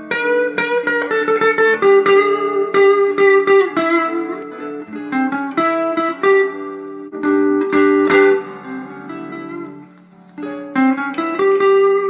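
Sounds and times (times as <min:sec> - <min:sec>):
electric guitar lead line: 0:00.0 - 0:12.0.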